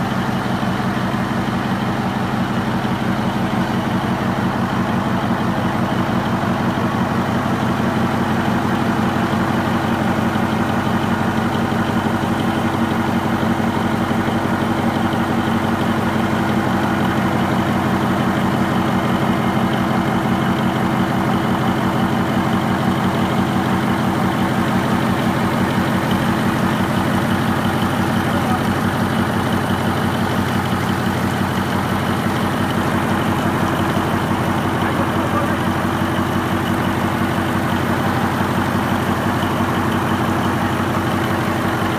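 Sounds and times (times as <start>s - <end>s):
marine diesel engine running: 0.0s - 41.9s.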